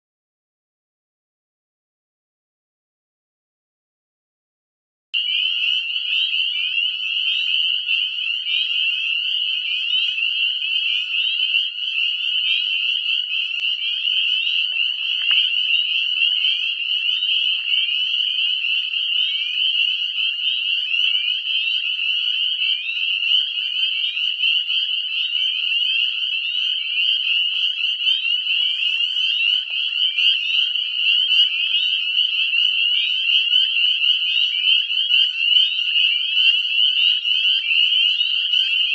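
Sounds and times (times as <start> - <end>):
frogs peeping chorus: 5.2 - 38.9.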